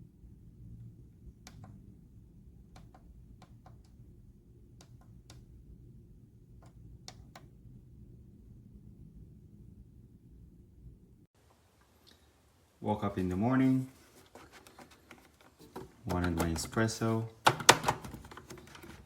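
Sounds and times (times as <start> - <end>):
faint low hum: 0.0 - 17.4.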